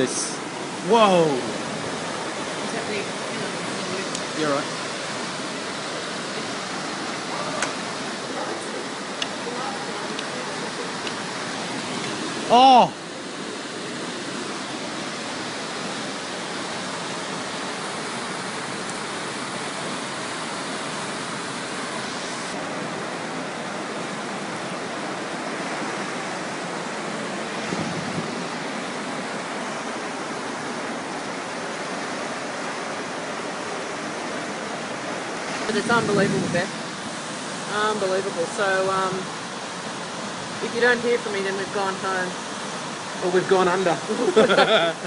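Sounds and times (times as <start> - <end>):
floodwater rushing: 0.0 - 45.0.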